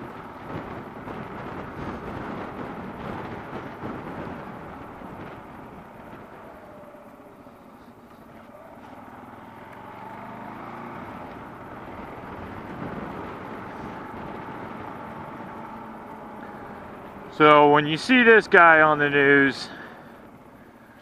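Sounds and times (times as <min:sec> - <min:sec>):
motorcycle engine running: 0:00.0 - 0:21.0
wind and road rush: 0:00.0 - 0:21.0.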